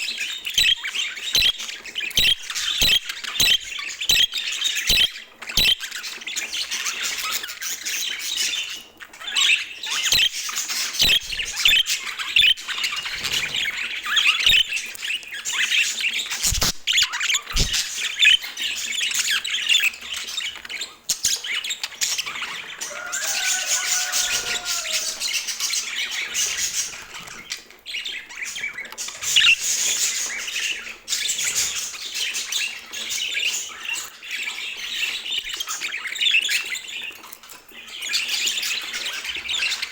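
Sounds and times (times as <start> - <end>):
budgerigars chattering: 0.0 - 37.1.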